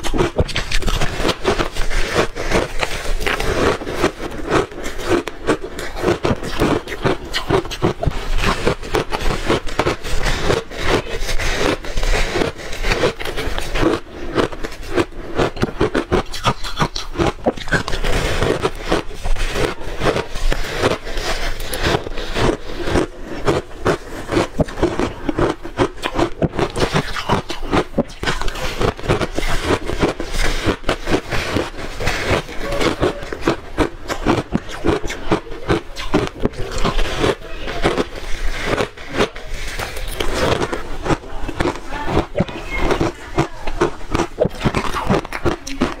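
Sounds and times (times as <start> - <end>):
shaved ice crunching between teeth: 0.0 - 46.0.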